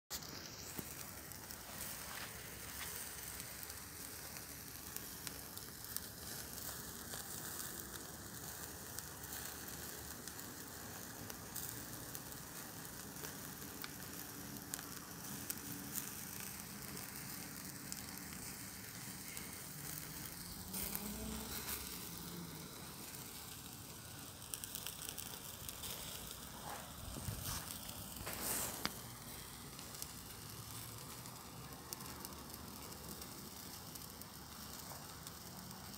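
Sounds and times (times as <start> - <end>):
coals crackling: 0.1 - 35.9
sausage sizzling on grill: 0.1 - 35.9.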